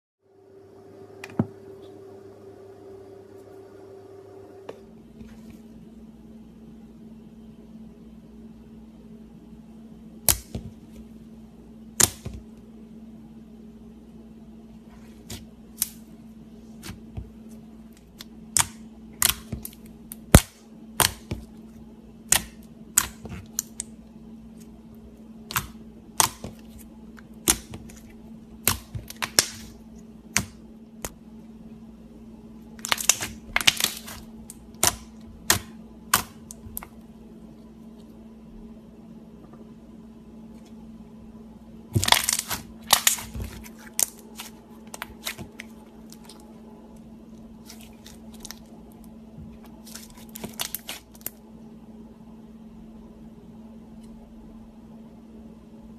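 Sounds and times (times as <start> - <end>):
steady low hum: 0.2 - 55.9.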